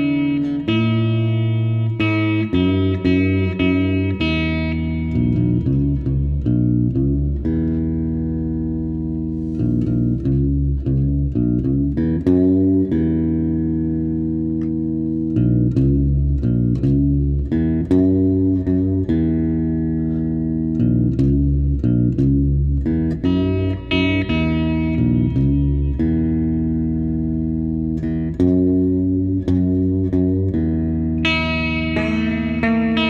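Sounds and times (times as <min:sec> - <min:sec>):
fretless electric guitar blues line: 0:00.0 - 0:33.0.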